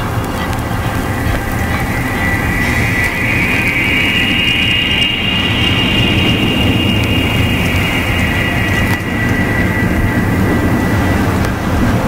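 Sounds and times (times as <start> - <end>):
high held tone sinking in pitch: 0.0 - 12.0
low ambient drone rumble: 0.0 - 12.0.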